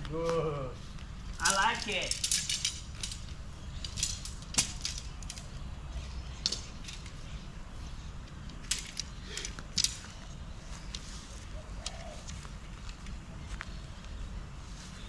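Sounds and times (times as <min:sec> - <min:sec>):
tent parts clicking and knocking: 0:00.0 - 0:14.2.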